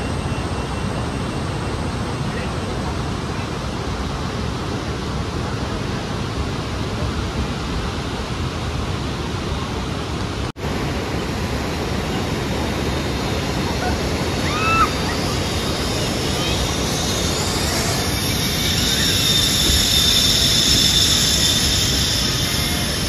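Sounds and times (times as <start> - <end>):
steady low rushing noise: 0.0 - 23.0.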